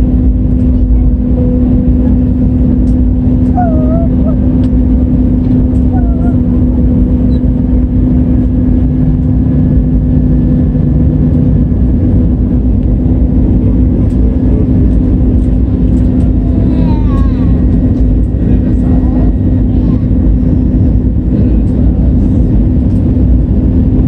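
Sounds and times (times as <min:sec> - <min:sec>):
airplane cabin engine rumble: 0:00.0 - 0:24.0
constant hum: 0:00.0 - 0:24.0.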